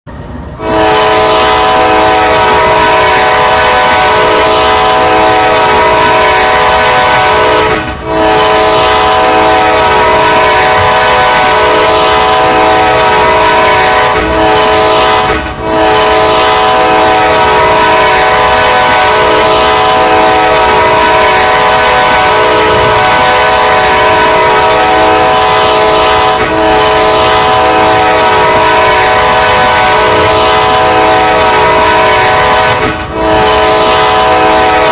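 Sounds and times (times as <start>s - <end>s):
locomotive air horn blasts: 0.6s - 34.9s.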